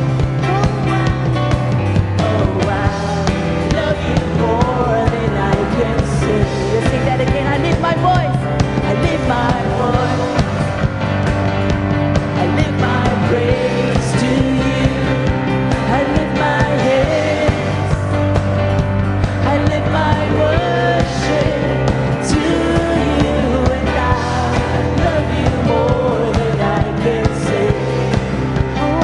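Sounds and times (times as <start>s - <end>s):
worship band playing: 0.0s - 29.0s.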